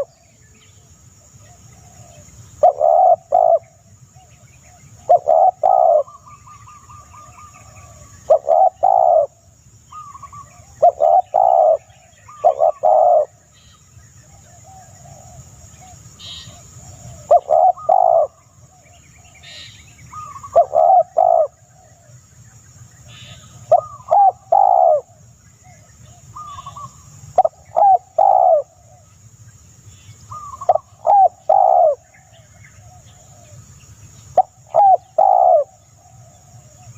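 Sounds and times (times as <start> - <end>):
dove cooing: 0.0 - 0.3, 1.4 - 13.5, 14.2 - 22.2, 23.1 - 29.1, 30.3 - 33.6, 34.4 - 36.9
higher trilling bird call: 1.5 - 13.8, 14.4 - 22.1, 23.0 - 29.1, 29.9 - 33.6, 34.4 - 36.9.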